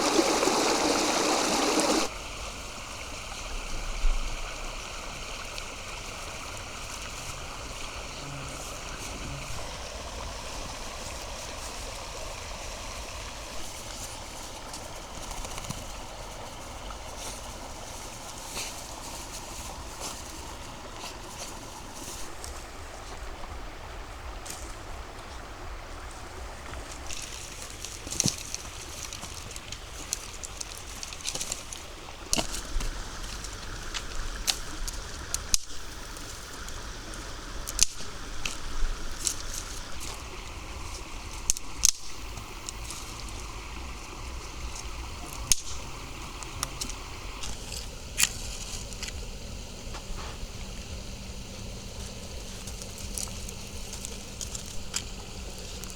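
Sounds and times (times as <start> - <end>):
water sloshing and trickling: 0.0 - 55.9.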